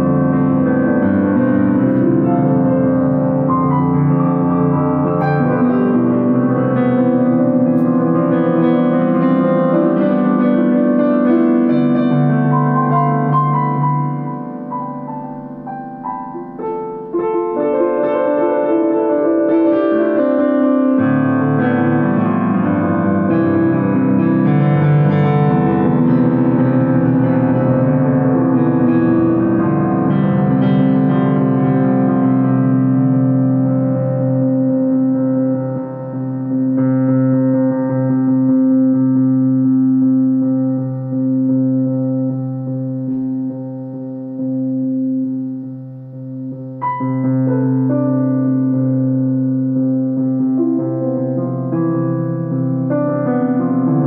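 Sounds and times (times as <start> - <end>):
piano-like keyboard music: 0.0 - 54.0.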